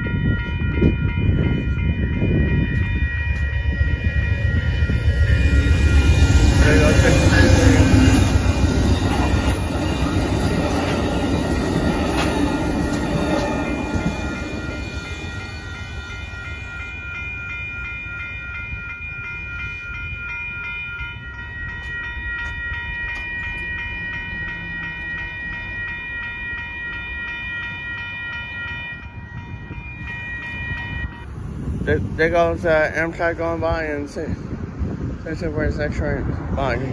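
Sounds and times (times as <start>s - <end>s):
crossing warning bells ringing: 0.0s - 36.9s
train rumbling past: 0.0s - 36.9s.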